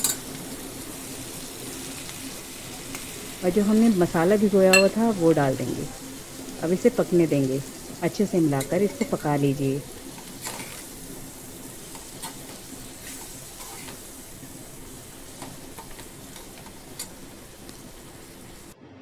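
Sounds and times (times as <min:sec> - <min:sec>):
chillies sizzling in hot oil: 0:00.0 - 0:18.8.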